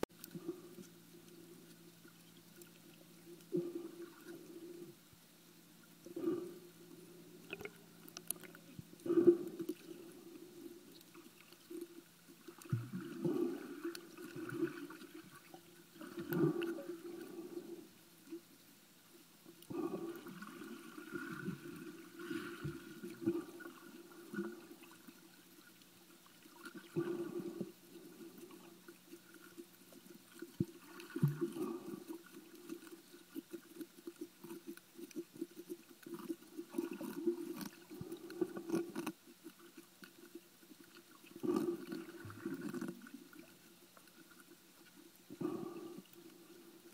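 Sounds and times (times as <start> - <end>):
faint steady hum: 0.0 - 46.9
muffled underwater sloshing: 0.2 - 46.9.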